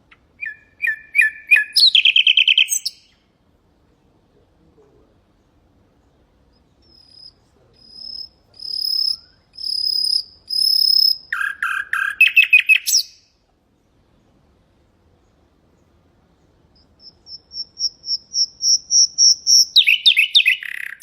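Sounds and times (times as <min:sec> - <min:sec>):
nightingale singing: 0:00.0 - 0:04.3, 0:05.2 - 0:14.3, 0:15.0 - 0:21.0.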